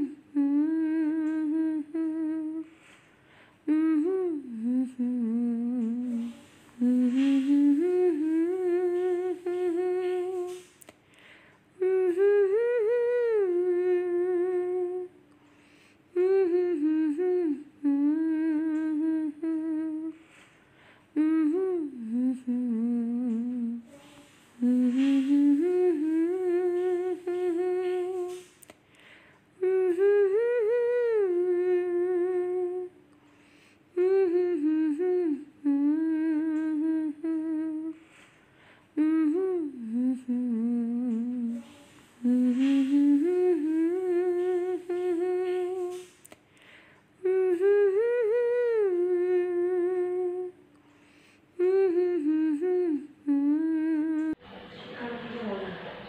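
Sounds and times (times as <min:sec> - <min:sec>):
person humming a tune: 0:00.0 - 0:02.9, 0:03.6 - 0:10.9, 0:11.8 - 0:15.2, 0:16.1 - 0:20.4, 0:21.1 - 0:28.6, 0:29.6 - 0:33.0, 0:33.9 - 0:38.2, 0:38.9 - 0:46.4, 0:47.2 - 0:50.6, 0:51.6 - 0:54.4.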